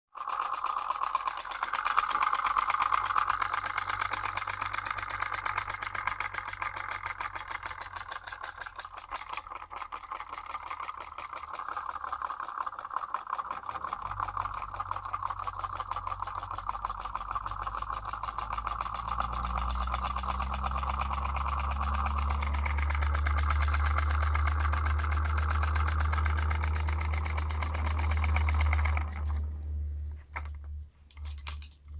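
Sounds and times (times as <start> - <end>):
solenoid engine clicking: 0.1 - 31.9.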